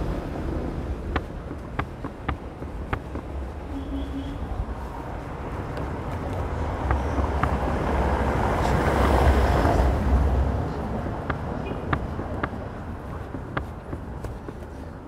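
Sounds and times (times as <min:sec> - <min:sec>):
vehicle passing on street: 0:00.0 - 0:15.0
faint footsteps: 0:00.1 - 0:15.0.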